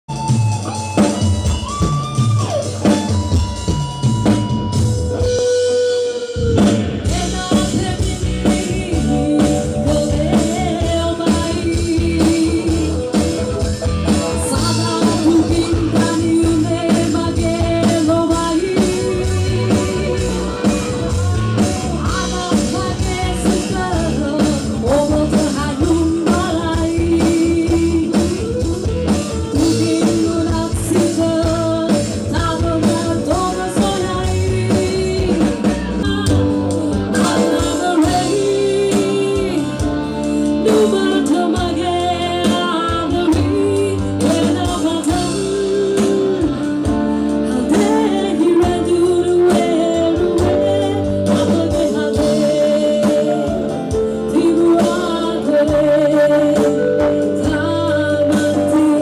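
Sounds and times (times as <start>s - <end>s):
band playing with drum beat: 0.1s - 59.0s
woman singing: 6.3s - 59.0s.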